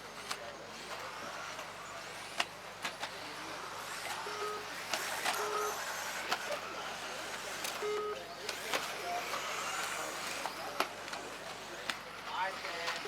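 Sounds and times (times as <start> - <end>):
rc buggy motors and tyres hissing: 0.0 - 7.8, 8.4 - 13.0.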